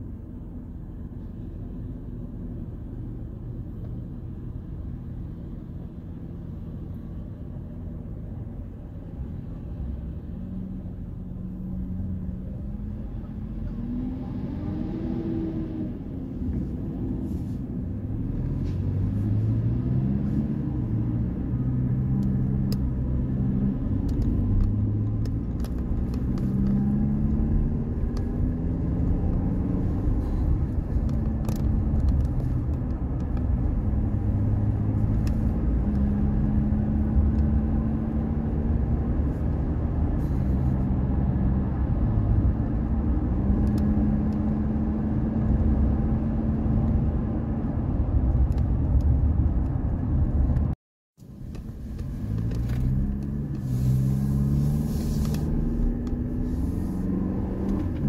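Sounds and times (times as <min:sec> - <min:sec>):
car engine hum: 0:00.0 - 0:58.0
road noise inside car: 0:00.0 - 0:58.0.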